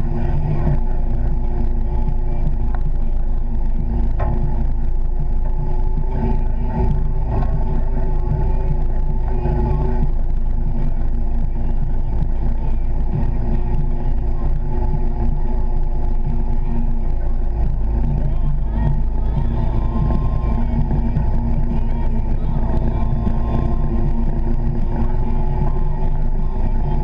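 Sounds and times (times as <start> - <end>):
vehicle engine rumble in cab: 0.0 - 27.0.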